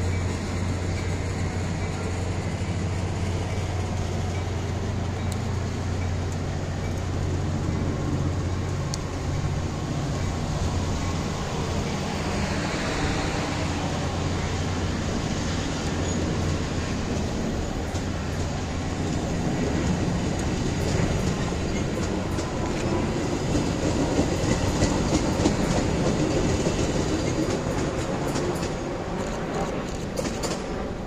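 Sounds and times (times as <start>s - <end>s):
low locomotive drone: 0.0s - 31.0s
wheels clicking over rail joints: 0.0s - 31.0s.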